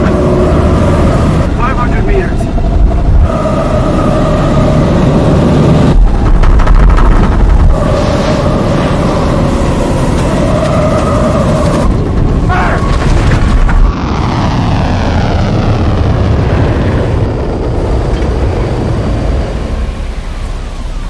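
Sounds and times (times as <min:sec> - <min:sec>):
dense rumble: 0:00.0 - 0:21.0
engine noise: 0:00.0 - 0:21.0.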